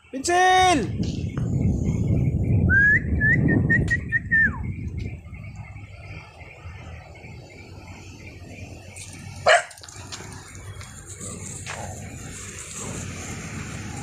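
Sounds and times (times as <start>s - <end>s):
low rumble on microphone: 0.8s - 14.0s.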